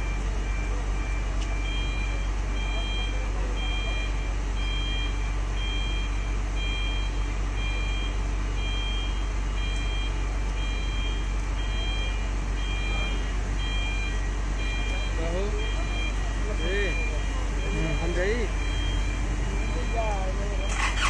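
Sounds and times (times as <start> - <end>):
two-pitch warning beeper: 0.0 - 21.0.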